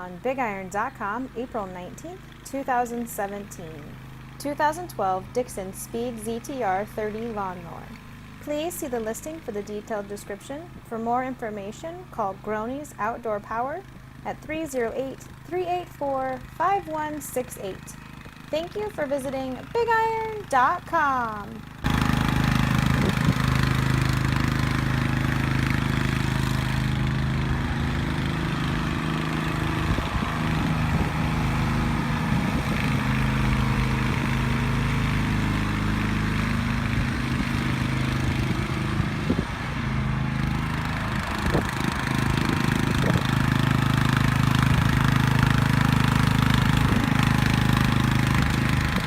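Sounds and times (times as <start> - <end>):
riding mower engine running: 0.0 - 49.0.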